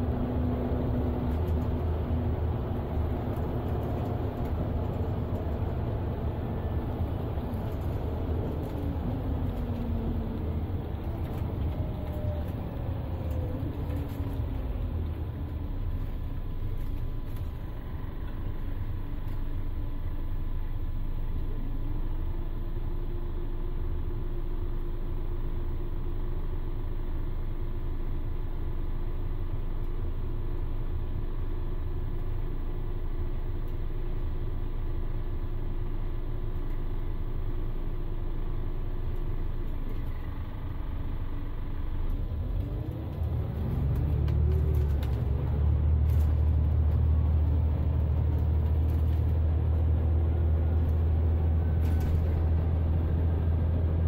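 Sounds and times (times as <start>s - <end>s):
bus engine and gearbox whine: 0.0s - 54.0s
bus engine idling hum: 0.0s - 54.0s.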